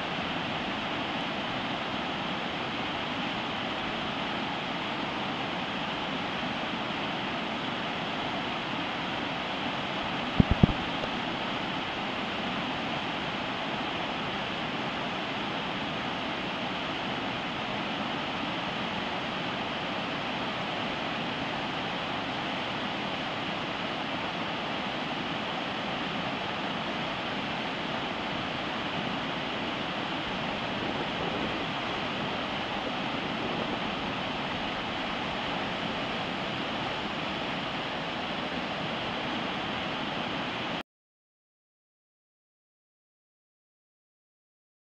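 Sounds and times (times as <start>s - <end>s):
whitewater rapids over boulders: 0.0s - 40.8s.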